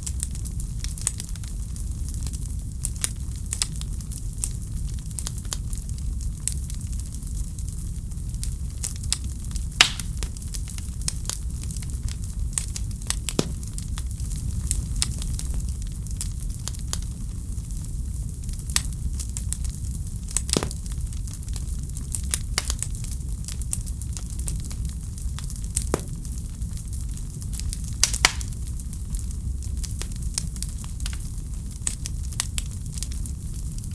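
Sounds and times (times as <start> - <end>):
fire crackling and popping: 0.0 - 33.9
low fire rumble: 0.0 - 33.9.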